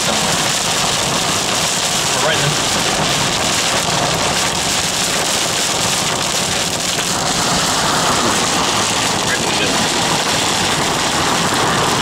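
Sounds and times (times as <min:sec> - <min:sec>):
heavy rain on car windshield: 0:00.0 - 0:12.0.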